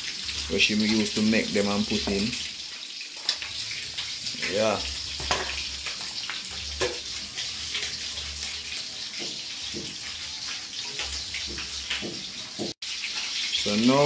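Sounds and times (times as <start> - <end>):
fish sizzling in hot oil: 0.0 - 14.0
oil crackles and pops: 0.0 - 14.0.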